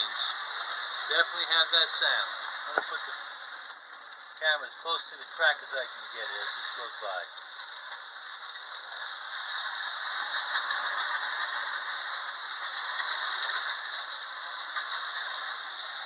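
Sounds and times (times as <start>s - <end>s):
toy train clattering on metal track: 0.0s - 16.0s.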